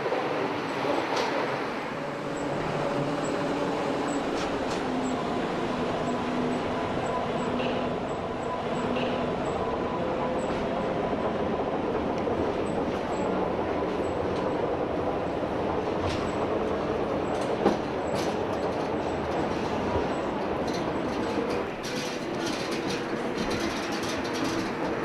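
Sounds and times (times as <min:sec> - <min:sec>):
railcar rumble and hiss: 0:00.0 - 0:25.0.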